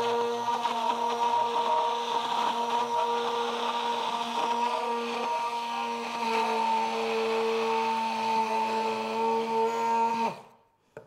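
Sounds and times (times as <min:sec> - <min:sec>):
stick blender motor hum: 0:00.0 - 0:10.6.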